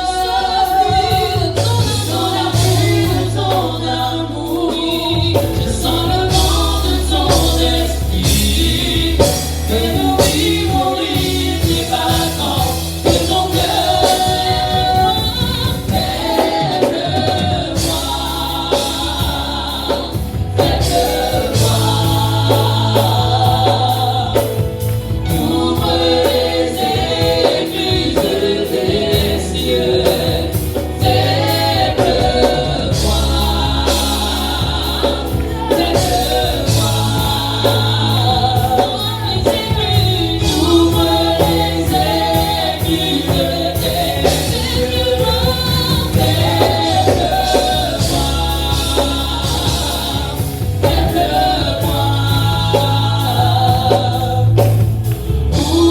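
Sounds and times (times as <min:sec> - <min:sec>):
band with bass and steady beat: 0:00.0 - 0:55.9
choir singing: 0:00.0 - 0:55.9.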